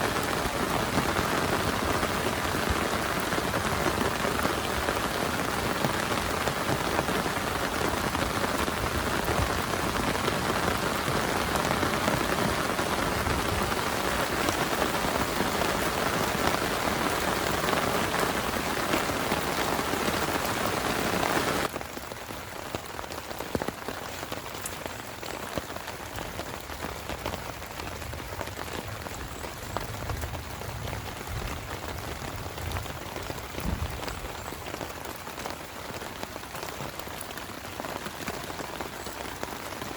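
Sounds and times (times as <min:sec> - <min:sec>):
heavy rain falling: 0:00.0 - 0:39.9
light rain: 0:00.0 - 0:39.9.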